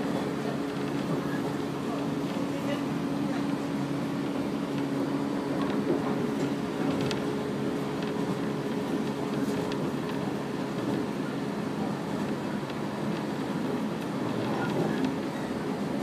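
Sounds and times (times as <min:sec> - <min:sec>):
train motors and wheels rumbling: 0:00.0 - 0:16.0.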